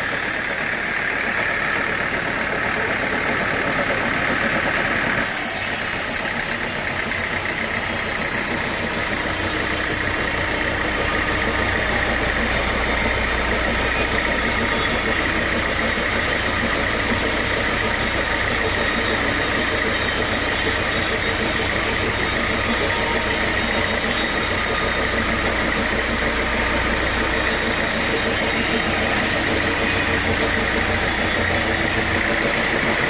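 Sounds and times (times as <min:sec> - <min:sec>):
sawmill machinery drone: 0:00.0 - 0:33.0.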